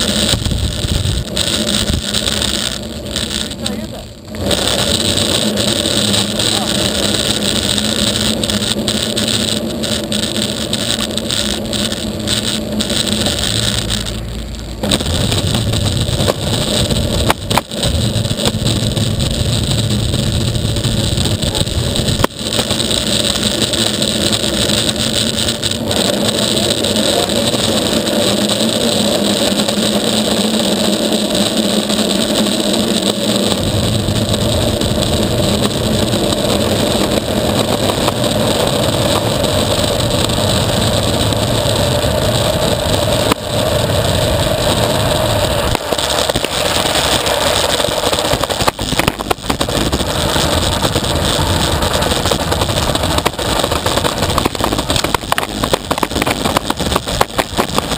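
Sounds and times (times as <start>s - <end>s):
longboard wheels rolling on asphalt: 0.0s - 57.9s
wind on microphone: 0.0s - 57.9s.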